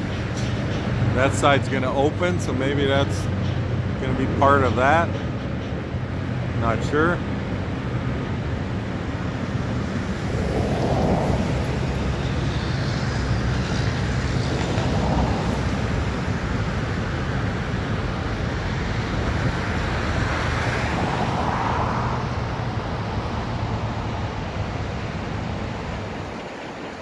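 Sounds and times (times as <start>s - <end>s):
rushing noise: 0.0s - 27.0s.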